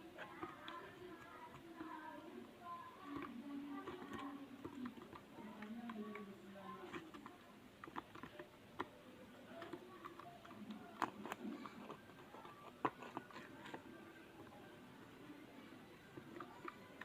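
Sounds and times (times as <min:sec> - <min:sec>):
stirrer scraping a container: 0:00.0 - 0:08.8, 0:09.5 - 0:17.0.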